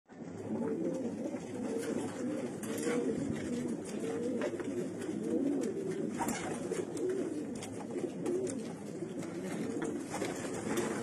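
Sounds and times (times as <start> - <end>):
pigeons cooing: 0.1 - 11.0.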